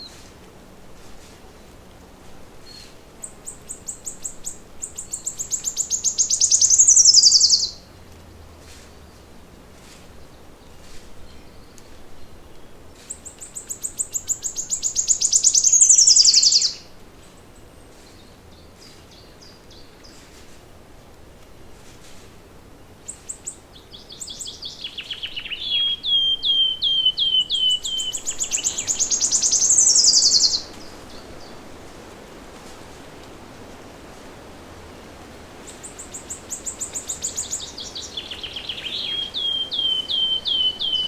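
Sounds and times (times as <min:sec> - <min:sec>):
songbird singing: 0:01.5 - 0:20.4, 0:22.6 - 0:33.4, 0:34.9 - 0:41.0.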